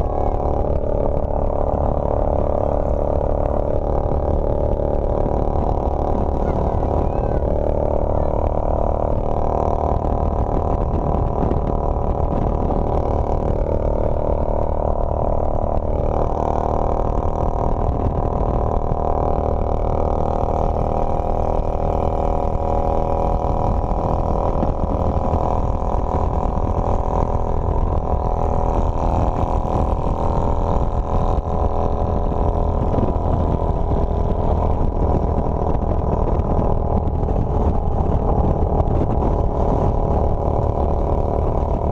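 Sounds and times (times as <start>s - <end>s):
motorcycle engine running: 0.0s - 41.9s
wind rumbling on microphone: 0.0s - 41.9s.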